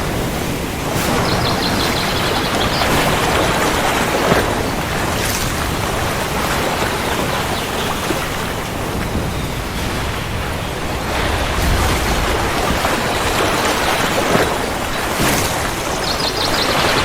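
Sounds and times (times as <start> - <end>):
heavy rain: 0.0 - 17.0
thunder rumbling: 0.0 - 17.0.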